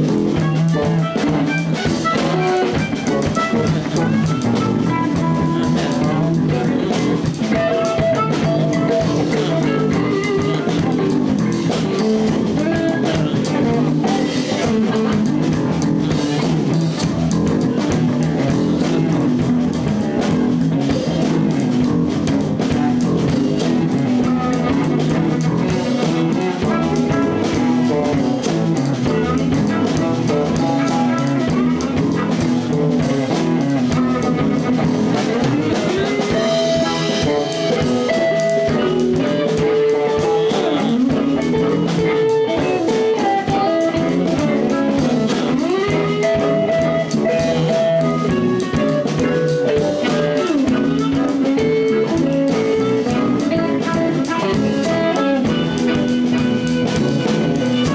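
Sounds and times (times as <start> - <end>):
bass: 0.0 - 57.9
drum-kit beat: 0.0 - 57.9
electric guitar lines: 0.0 - 57.9.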